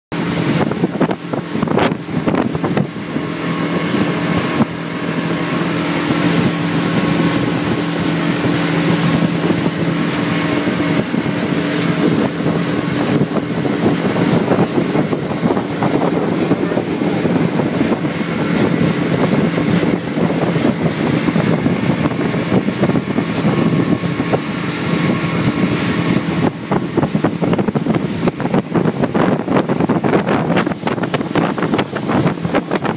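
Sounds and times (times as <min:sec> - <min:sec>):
motorboat engine hum: 0:00.1 - 0:32.9
water rushing along hull: 0:00.1 - 0:32.9
wind on microphone: 0:00.1 - 0:32.9.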